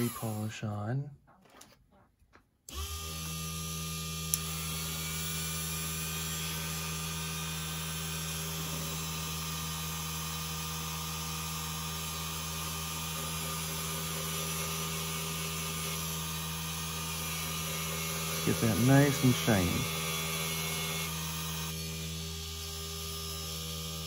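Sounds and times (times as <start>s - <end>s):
mini lathe humming with whine: 0.0s - 0.5s, 2.7s - 24.0s.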